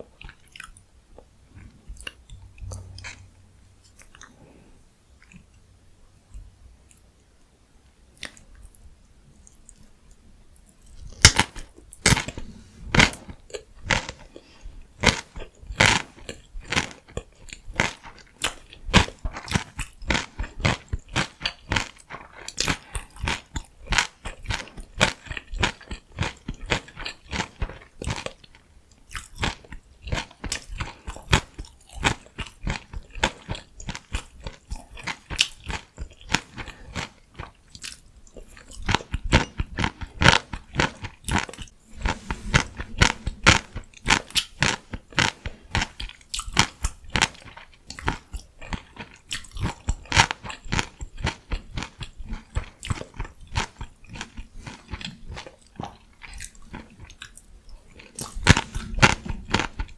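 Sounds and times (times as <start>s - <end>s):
chewing crunchy vegetables: 0.0s - 5.6s, 8.2s - 59.9s.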